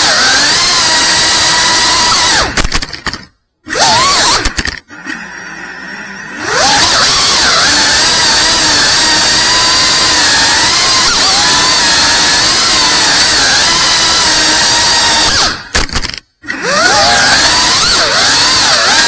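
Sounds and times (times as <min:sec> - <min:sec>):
drone motors whining: 0:00.0 - 0:02.6, 0:03.6 - 0:19.0.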